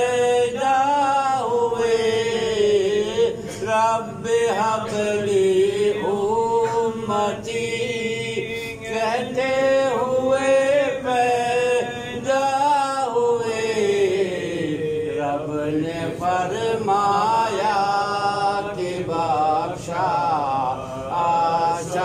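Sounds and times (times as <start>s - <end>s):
man chanting into microphone: 0.0s - 22.0s.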